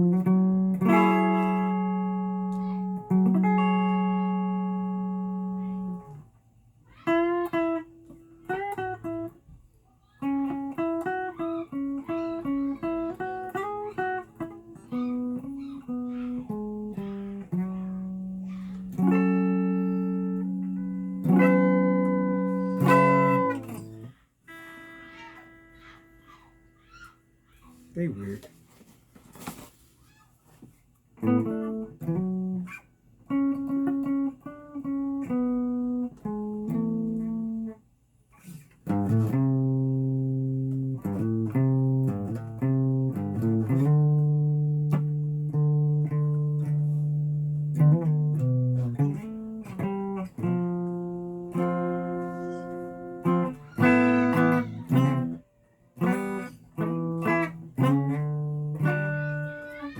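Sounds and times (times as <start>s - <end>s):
guitar playing: 0.0s - 28.9s, 30.7s - 59.9s.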